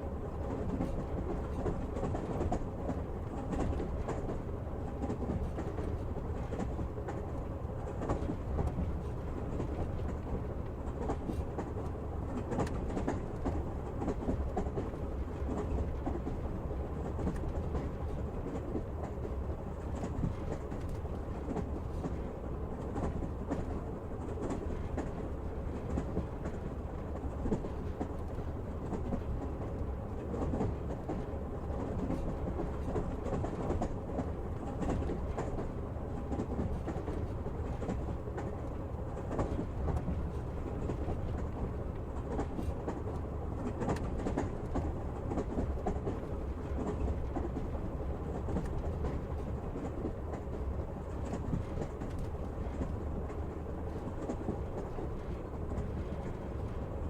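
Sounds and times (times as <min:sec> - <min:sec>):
train carriage rumble: 0:00.0 - 0:57.0
train wheels clacking on rails: 0:00.3 - 0:57.0.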